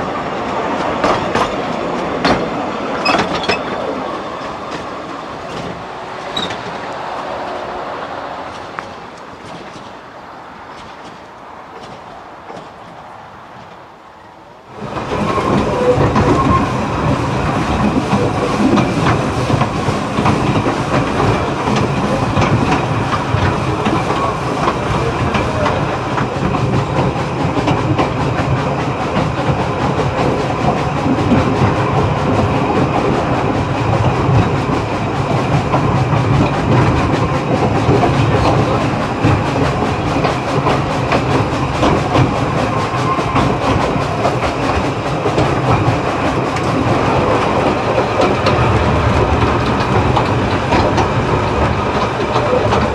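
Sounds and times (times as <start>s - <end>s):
train coach running noise: 0.0s - 52.9s
wheels clicking over rail joints: 0.5s - 7.1s, 8.4s - 14.0s, 14.7s - 52.9s.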